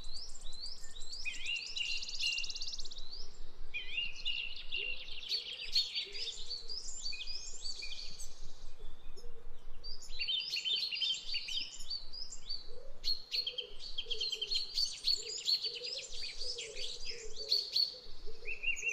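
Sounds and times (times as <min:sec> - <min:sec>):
small birds chirping and trilling: 0:00.0 - 0:18.9.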